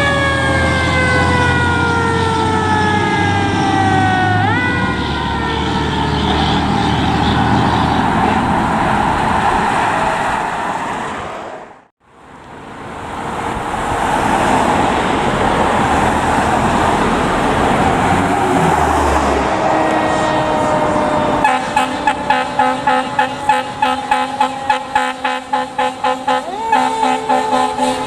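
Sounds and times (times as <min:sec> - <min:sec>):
fire trucks driving past: 0:00.0 - 0:28.0.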